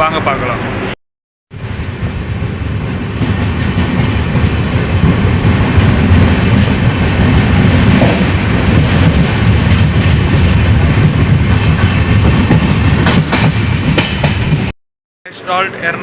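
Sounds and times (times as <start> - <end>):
train wheels rumbling on rails: 1.5 - 14.7.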